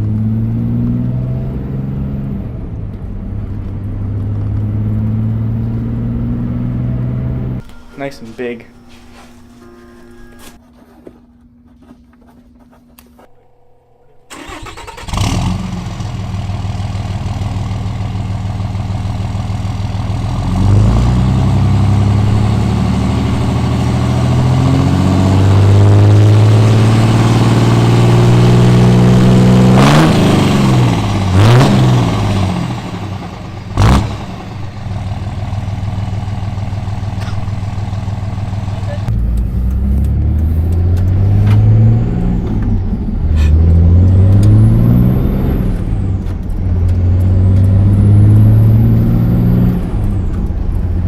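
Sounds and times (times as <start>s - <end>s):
diesel engine accelerating through gears: 0.0s - 7.6s, 14.3s - 51.0s.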